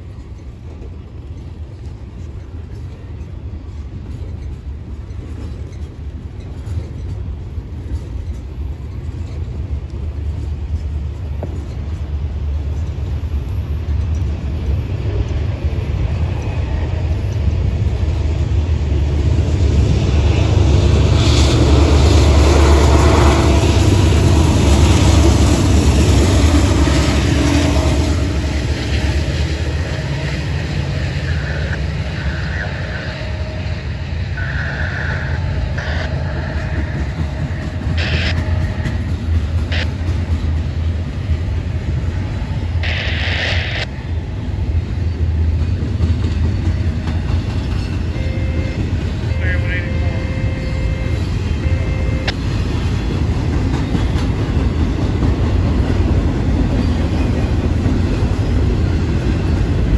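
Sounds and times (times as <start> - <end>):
freight train wheels rumbling: 0.0 - 59.9
second freight train passing: 0.0 - 59.9.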